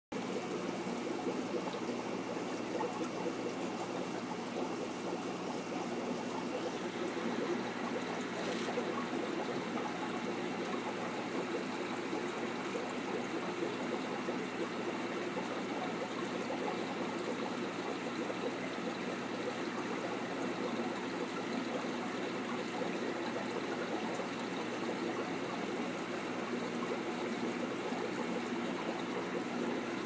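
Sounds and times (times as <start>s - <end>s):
aquarium water trickling: 0.2s - 30.0s.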